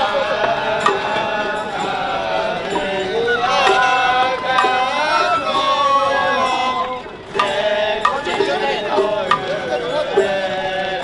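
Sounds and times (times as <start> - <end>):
crowd noise: 0.0 - 11.0
festival float music: 0.0 - 11.0.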